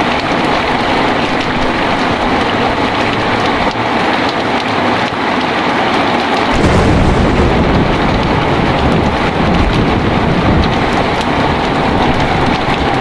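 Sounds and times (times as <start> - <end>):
low thunder rumble: 0.0 - 4.0, 6.5 - 13.0
heavy rain pouring: 0.0 - 13.0.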